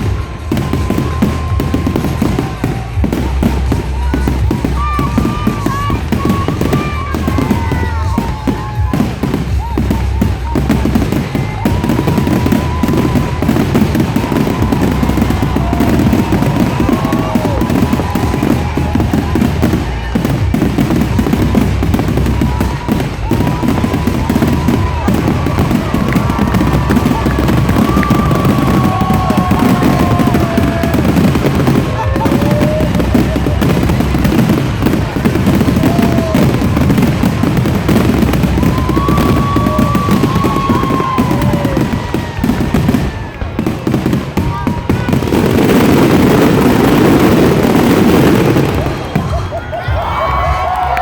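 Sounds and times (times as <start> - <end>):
music: 0.0 - 44.2, 48.6 - 51.0
firework whistles: 0.0 - 49.8
fireworks bangs and crackles: 0.0 - 51.0.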